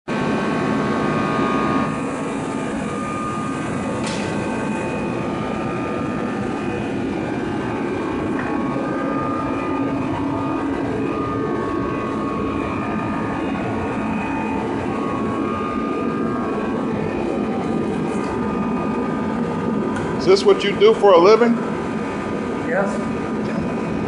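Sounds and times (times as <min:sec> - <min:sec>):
airplane engine and propeller drone: 0:00.0 - 0:24.0.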